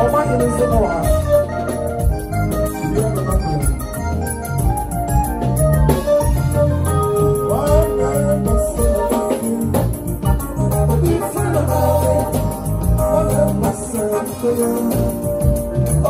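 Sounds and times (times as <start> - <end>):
deep bass notes: 0.0 - 16.0
electronic keyboard organ chords: 0.0 - 16.0
light percussion: 0.0 - 16.0.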